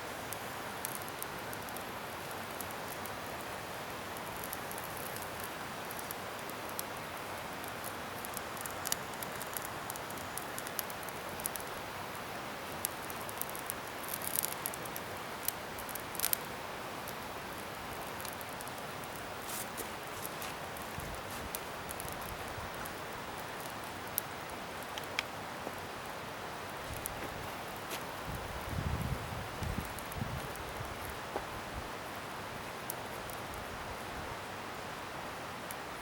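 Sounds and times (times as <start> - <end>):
bonfire crackling and hissing: 0.0 - 36.0.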